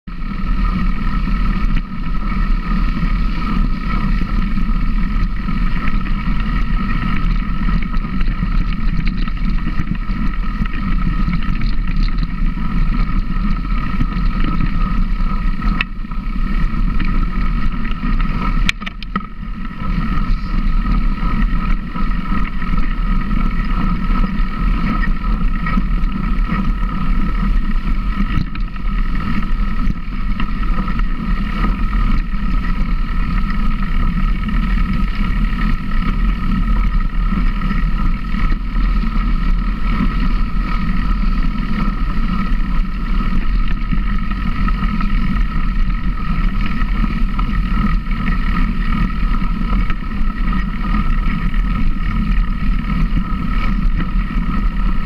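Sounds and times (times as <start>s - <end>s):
motor running steadily: 0.0s - 55.0s
wind rumbling on microphone: 0.0s - 55.0s.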